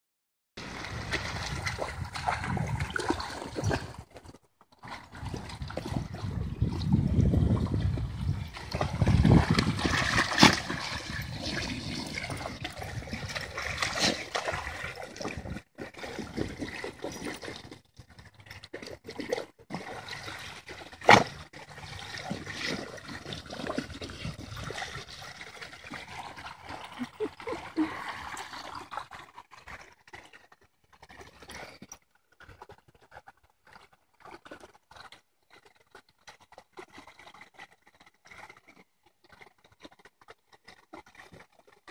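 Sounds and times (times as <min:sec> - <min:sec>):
muddy water splashing: 0:00.6 - 0:41.9.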